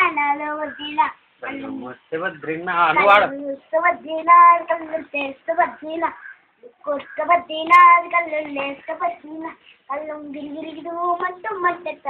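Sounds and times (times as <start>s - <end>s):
child singing: 0.0s - 1.8s, 2.9s - 12.0s.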